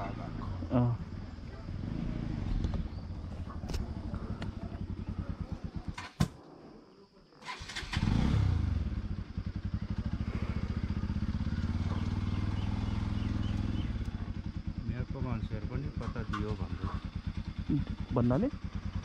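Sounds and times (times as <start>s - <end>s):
motorcycle engine idling: 0.0s - 6.2s, 7.4s - 19.0s.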